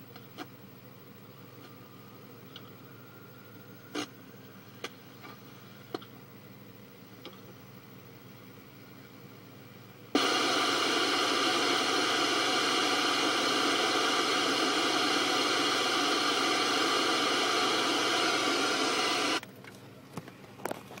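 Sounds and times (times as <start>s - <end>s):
loud static hiss: 0.0s - 21.0s.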